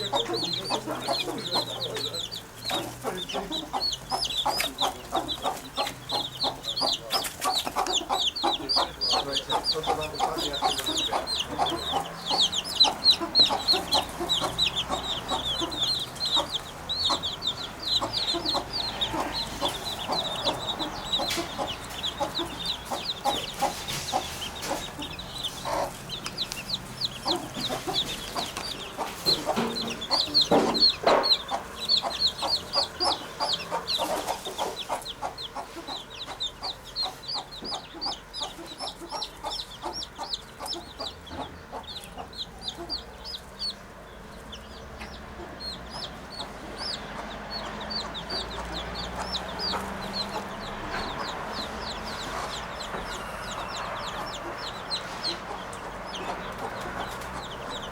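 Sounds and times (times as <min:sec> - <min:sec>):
pigeons clucking: 0:00.0 - 0:57.9.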